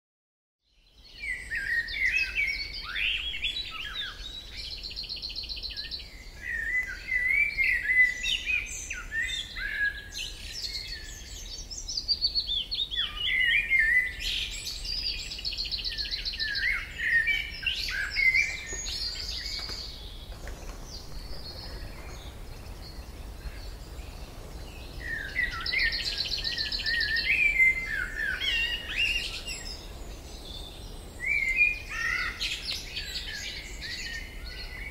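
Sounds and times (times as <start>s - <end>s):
songbirds chirping and whistling: 0.6s - 34.9s.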